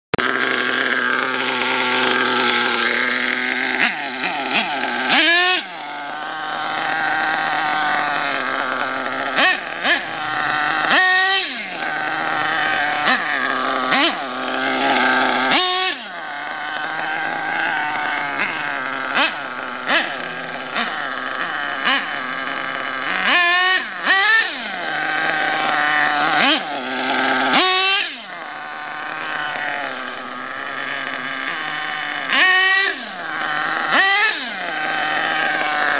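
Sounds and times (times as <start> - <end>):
model truck engine revving: 0.1 - 35.9.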